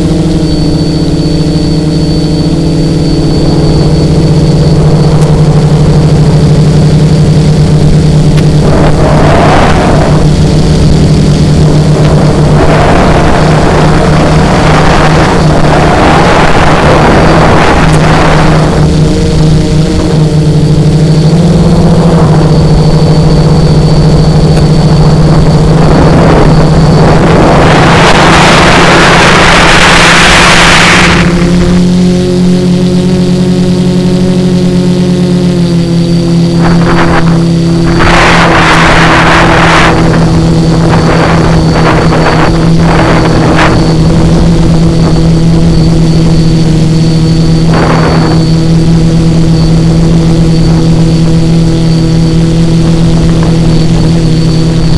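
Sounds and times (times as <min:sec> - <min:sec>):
drone motors buzzing: 0:00.0 - 0:54.9
wind rush: 0:00.0 - 0:54.9.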